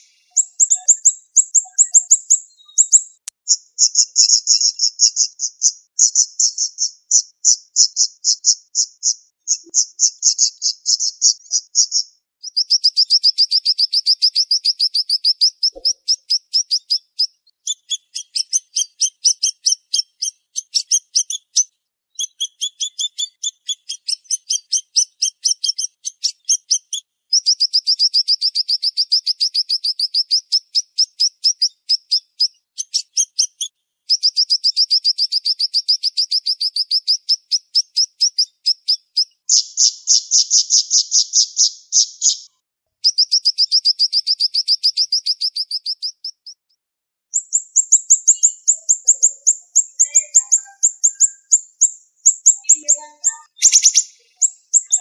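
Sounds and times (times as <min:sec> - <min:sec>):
songbird singing rapid high notes: 0:00.0 - 0:42.4, 0:43.0 - 0:46.6, 0:47.3 - 0:55.0.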